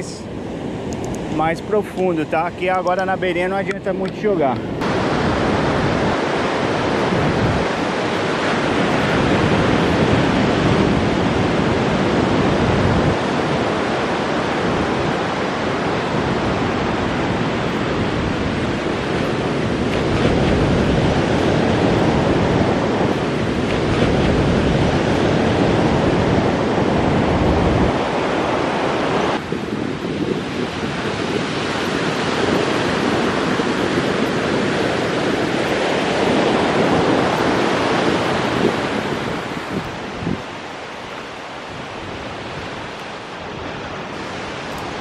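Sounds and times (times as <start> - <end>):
ocean surf breaking on beach: 0.0 - 45.0
wind buffeting microphone: 0.0 - 45.0.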